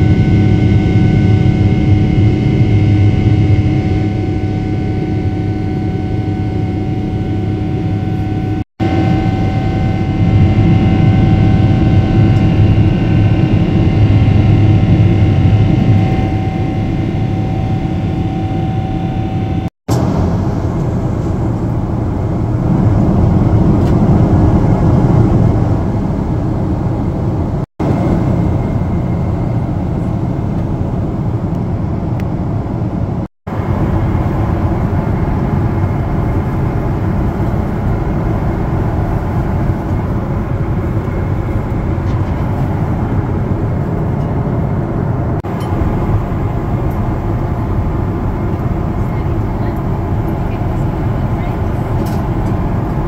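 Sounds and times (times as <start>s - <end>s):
faint steady whine: 0.0s - 53.0s
jet engine drone and air rush: 0.0s - 53.0s.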